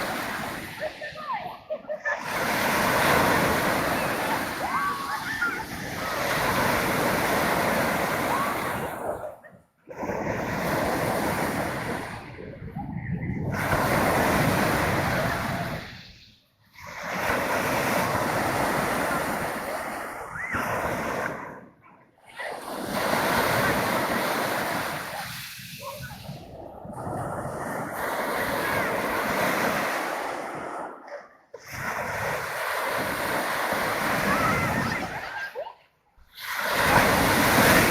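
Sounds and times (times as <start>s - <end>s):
waves breaking with a hiss: 0.0s - 12.6s, 13.4s - 37.9s.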